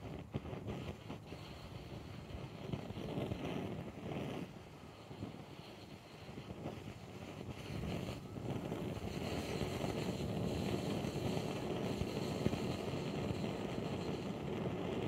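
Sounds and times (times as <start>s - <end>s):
blowtorch burning with rumble: 0.0s - 15.0s.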